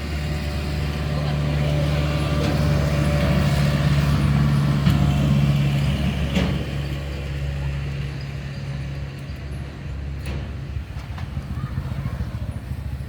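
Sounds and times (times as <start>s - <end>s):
engine low drone: 0.0s - 13.0s.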